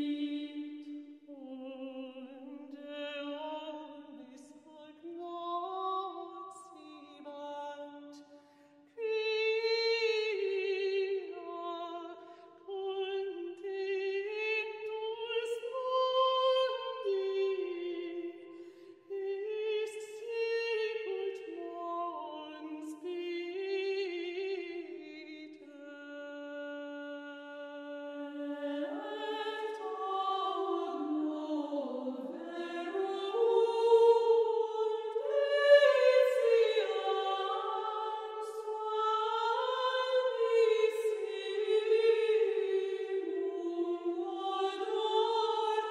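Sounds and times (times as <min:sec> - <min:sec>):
slow choral singing: 0:00.0 - 0:45.9.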